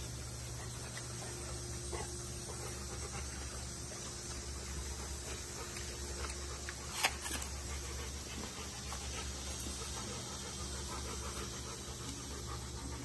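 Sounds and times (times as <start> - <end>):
steady low hum: 0.0 - 13.0
chimpanzee chewing apple: 0.5 - 13.0.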